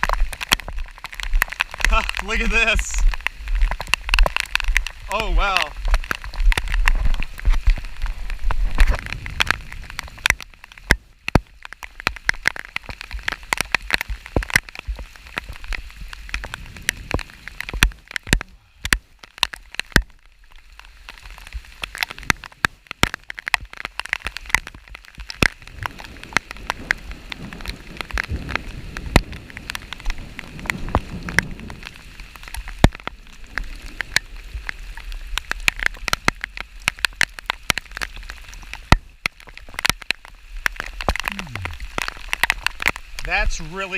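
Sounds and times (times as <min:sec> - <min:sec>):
rain falling: 0:00.0 - 0:43.9
raindrops tapping near microphone: 0:00.0 - 0:43.9.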